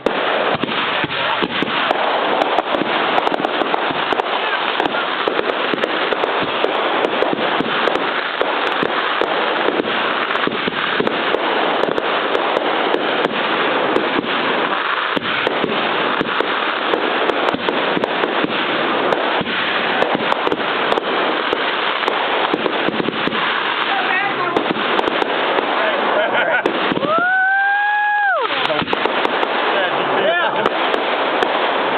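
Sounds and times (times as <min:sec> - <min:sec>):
fireworks bangs and crackle: 0:00.0 - 0:31.9.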